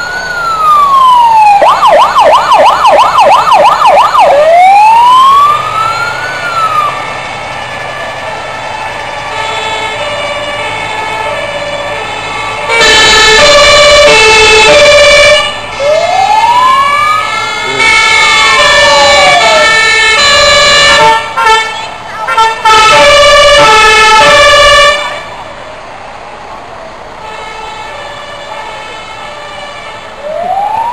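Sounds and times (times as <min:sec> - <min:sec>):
siren wail: 0:00.0 - 0:25.4, 0:26.8 - 0:30.9
fire engine two-tone sirens: 0:00.0 - 0:30.9.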